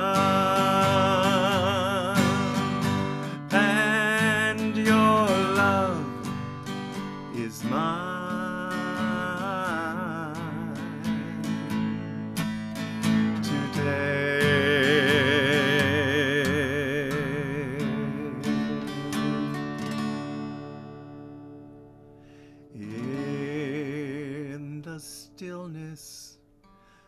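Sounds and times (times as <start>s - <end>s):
person singing with vibrato: 0.0s - 6.5s, 7.3s - 19.7s, 22.7s - 26.3s
acoustic guitar picking: 0.0s - 27.0s.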